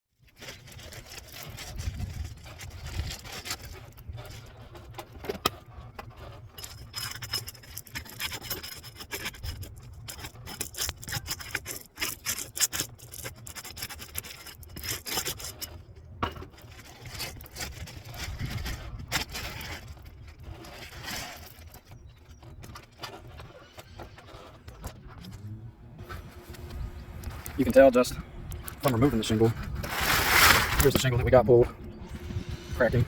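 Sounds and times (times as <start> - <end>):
scraping on roof shingles: 0.2 - 25.3, 28.8 - 31.6.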